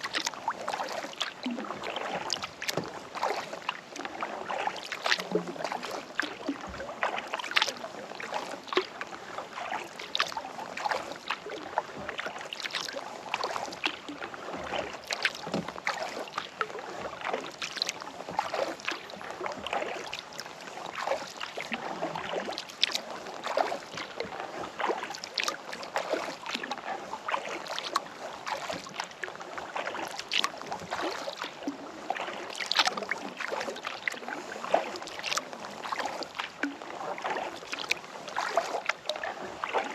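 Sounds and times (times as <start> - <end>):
kayak paddle splashing: 0.0 - 39.9.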